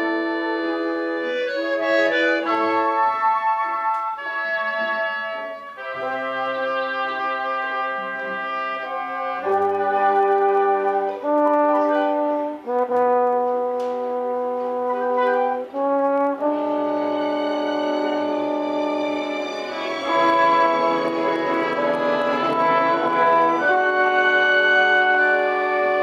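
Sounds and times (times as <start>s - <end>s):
brass section: 0.0s - 26.0s
orchestra playing held chords: 0.0s - 26.0s.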